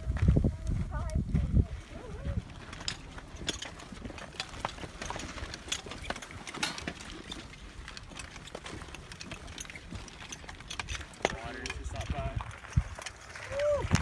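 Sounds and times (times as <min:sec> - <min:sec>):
footsteps crunching on rocky trail: 0:00.0 - 0:14.0.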